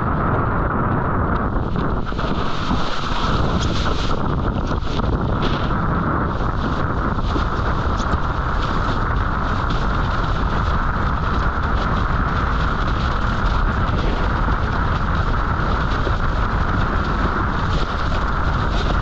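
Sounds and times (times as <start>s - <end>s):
wind buffeting microphone: 0.0s - 19.0s
rushing water: 1.5s - 19.0s.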